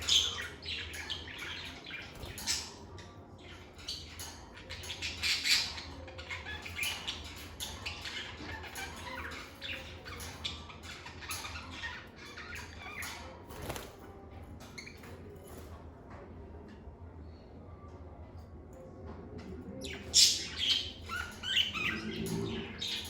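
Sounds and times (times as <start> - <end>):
lovebirds chirping and squawking: 0.0 - 15.8, 18.8 - 23.0.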